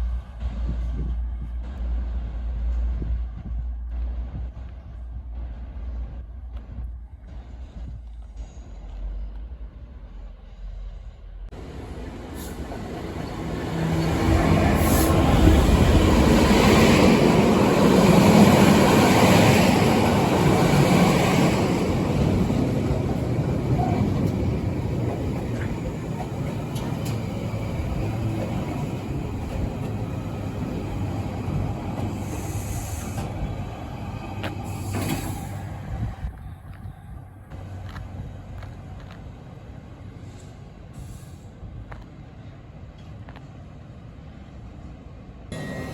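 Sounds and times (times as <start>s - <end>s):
train rumbling and hissing: 0.0s - 45.9s.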